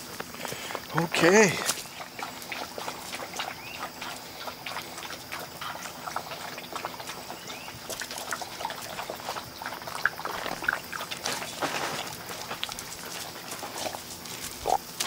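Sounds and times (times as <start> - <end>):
puppies sniffing and snuffling: 0.0 - 15.0
wet licking sounds: 0.1 - 15.0.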